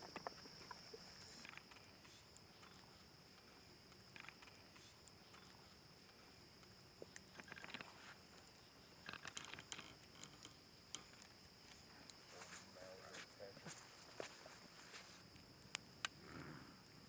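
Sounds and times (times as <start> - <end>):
faint ticks and rustles: 0.0 - 17.0.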